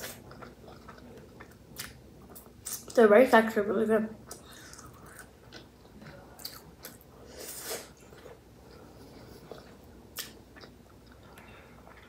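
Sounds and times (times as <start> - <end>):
person chewing food: 0.0 - 3.0, 4.2 - 12.0.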